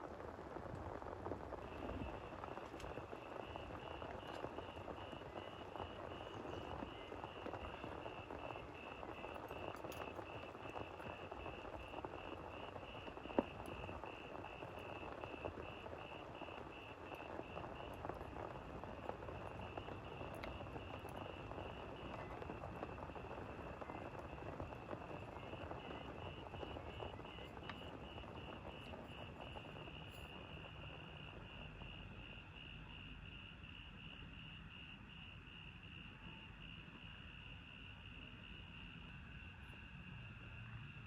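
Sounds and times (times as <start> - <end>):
steady rain: 0.0 - 33.2
frog or insect chorus: 1.7 - 41.0.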